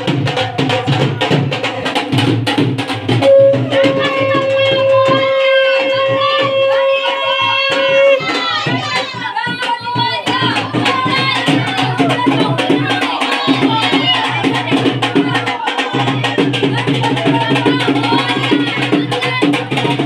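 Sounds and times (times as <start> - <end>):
festive music with drums: 0.0 - 20.0
people singing: 0.0 - 20.0.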